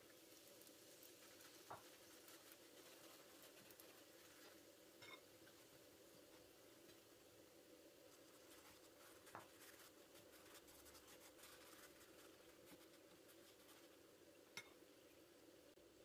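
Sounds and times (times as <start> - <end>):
food crackling in frying pan: 0.0 - 15.8.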